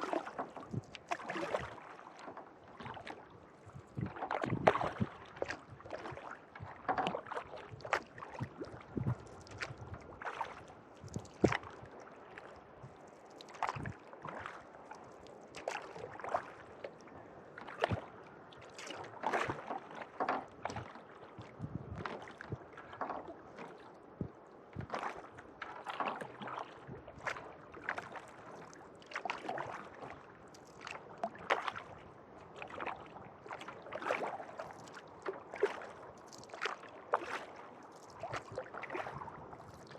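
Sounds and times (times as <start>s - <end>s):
paddle strokes in water: 0.0s - 39.9s
water splashes and drips: 0.0s - 39.9s.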